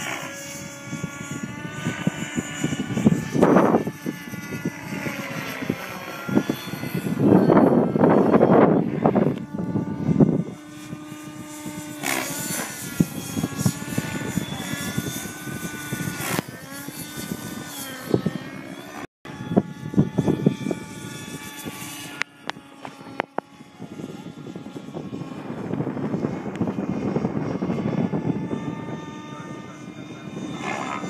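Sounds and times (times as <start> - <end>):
helicopter rotor: 0.0 - 31.0
model helicopter nitro engine: 0.0 - 31.0.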